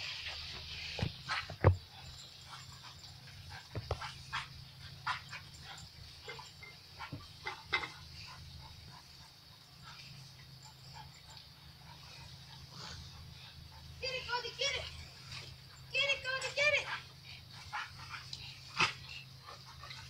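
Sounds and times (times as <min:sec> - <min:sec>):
lawn sprinkler hissing: 0:00.0 - 0:20.0
dog barking and yipping: 0:01.2 - 0:20.0.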